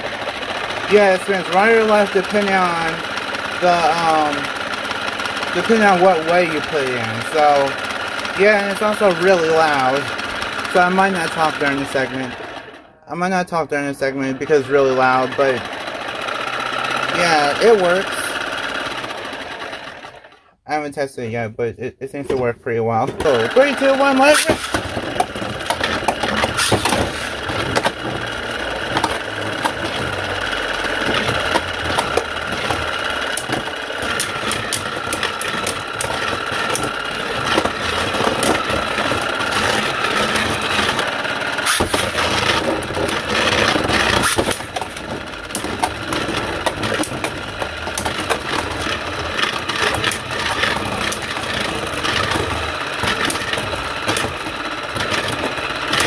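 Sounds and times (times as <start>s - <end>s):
spinning tops rattling and clicking: 0.0s - 12.7s, 23.2s - 56.0s
loud motor whine: 0.0s - 12.9s, 14.2s - 20.4s, 23.2s - 56.0s.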